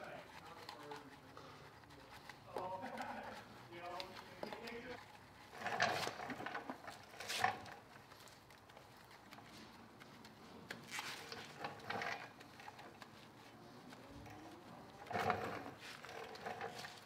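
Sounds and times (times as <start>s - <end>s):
brush scrubbing: 0.0s - 17.0s.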